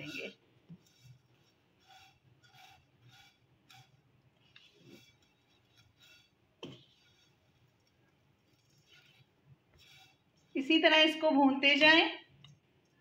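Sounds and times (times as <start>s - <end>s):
spatula scraping in a pan: 0.0s - 11.3s.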